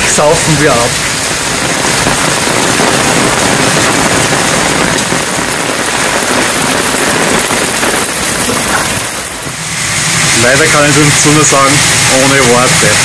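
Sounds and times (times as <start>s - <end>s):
heavy rain on ground: 0.0s - 13.0s.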